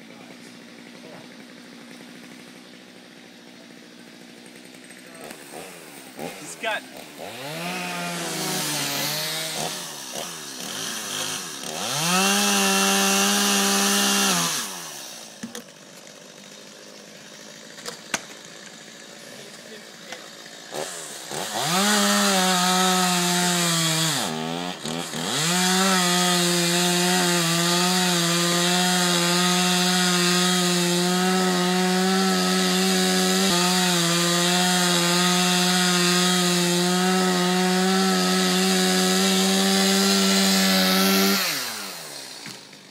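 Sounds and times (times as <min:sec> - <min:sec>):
chainsaw engine revving: 0:00.0 - 0:42.9.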